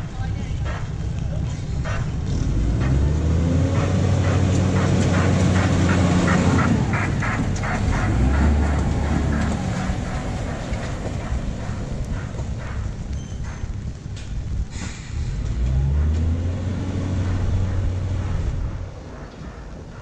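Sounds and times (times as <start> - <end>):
train engine running: 0.0 - 20.0.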